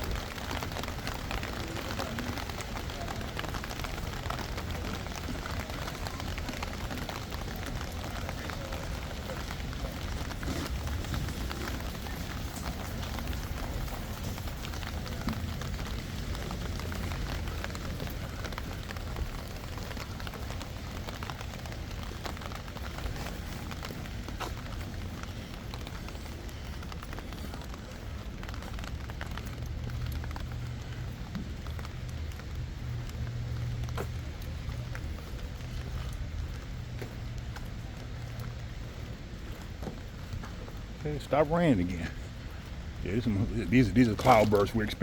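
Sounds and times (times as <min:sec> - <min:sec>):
steady rain hissing: 0:00.0 - 0:45.0.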